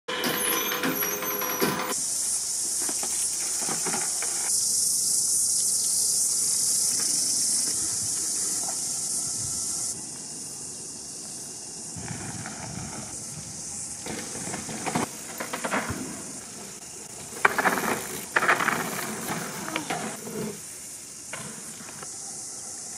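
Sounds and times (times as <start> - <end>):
high-pitched insect chorus: 0.1 - 22.9
bike tyres crunching on dirt: 1.9 - 10.4, 11.2 - 22.1.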